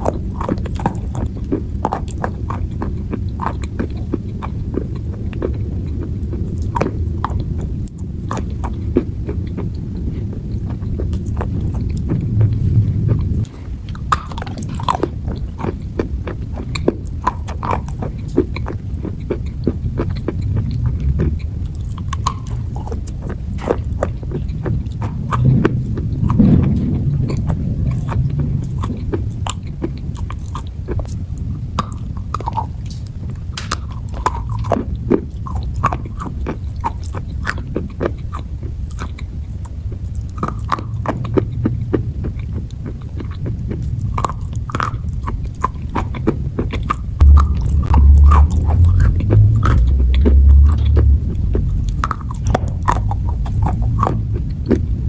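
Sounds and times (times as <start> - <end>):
crunchy clay being chewed: 0.0 - 55.0
steady low hum: 0.0 - 55.0.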